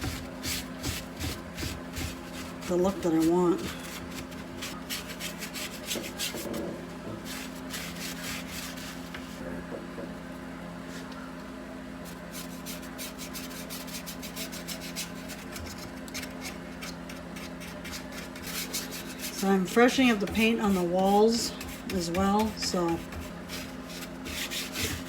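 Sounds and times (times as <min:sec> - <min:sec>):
paintbrush scraping on wood: 0:00.0 - 0:09.4, 0:12.1 - 0:25.0
steady low hum: 0:00.0 - 0:25.0.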